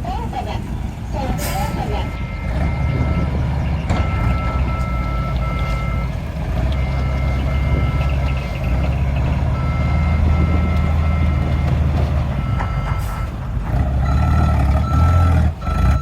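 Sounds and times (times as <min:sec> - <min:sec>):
truck engine running: 0:00.0 - 0:16.0
truck reversing alarm beeping: 0:01.4 - 0:16.0.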